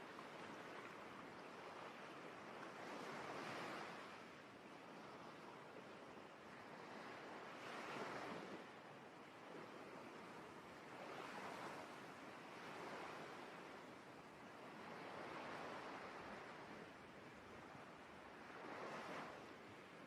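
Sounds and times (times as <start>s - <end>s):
ocean waves washing ashore: 0.0s - 20.0s.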